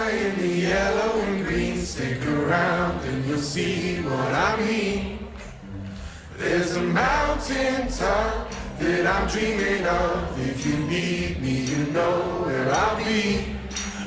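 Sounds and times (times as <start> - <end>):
voices singing: 0.0 - 14.0
steady low drone: 0.7 - 14.0.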